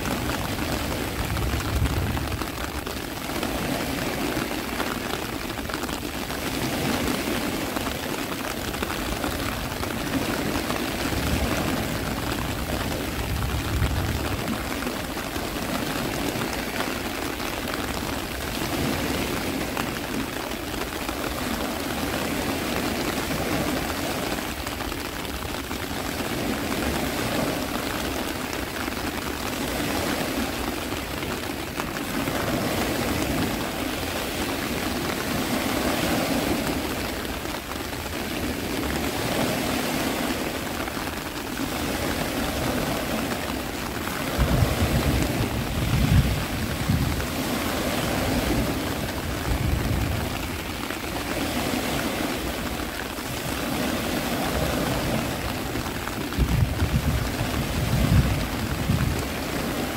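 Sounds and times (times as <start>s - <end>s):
rain: 0.0s - 59.9s
sea surf rushing: 0.0s - 59.9s.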